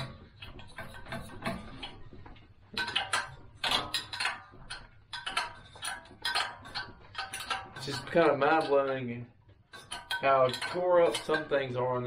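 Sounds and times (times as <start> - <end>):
metallic clinking of tools and nuts: 0.0 - 12.0.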